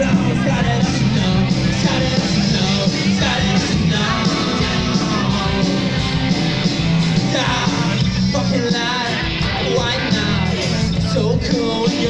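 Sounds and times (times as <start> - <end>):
person singing: 0.0 - 12.0
punk rock band playing: 0.0 - 12.0.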